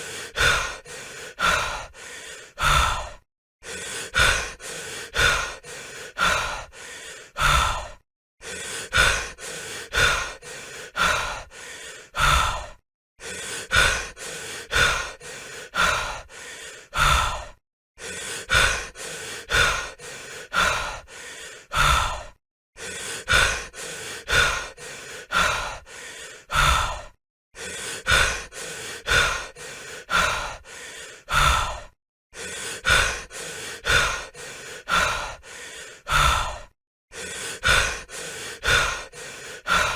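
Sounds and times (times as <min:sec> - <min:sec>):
person breathing heavily: 0:00.0 - 0:39.9.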